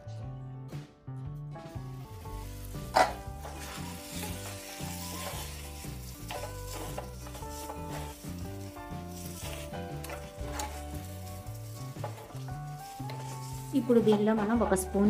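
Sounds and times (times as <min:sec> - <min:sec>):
soft background music: 0:00.0 - 0:15.0
chicken sizzling in a pan: 0:01.9 - 0:15.0
spatula stirring: 0:02.0 - 0:15.0.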